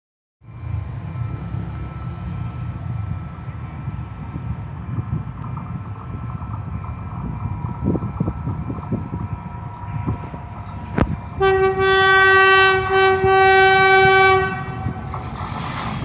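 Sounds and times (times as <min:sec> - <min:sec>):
distant train rumble: 0:00.4 - 0:16.0
wind on microphone: 0:02.7 - 0:16.0.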